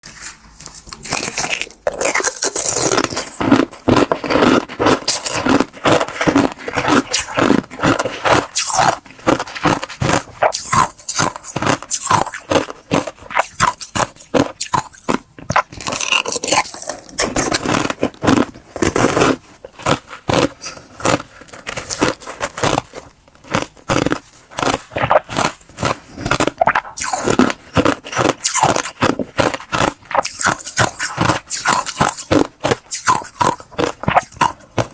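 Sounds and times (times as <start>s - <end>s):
chewing and crunching ice: 0.0s - 34.9s.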